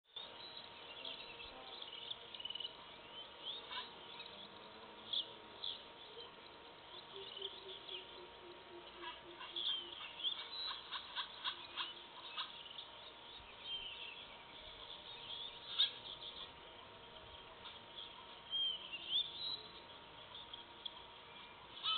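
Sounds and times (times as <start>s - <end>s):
birds chirping and calling: 0.1s - 21.9s
faint steady tone: 0.1s - 21.9s.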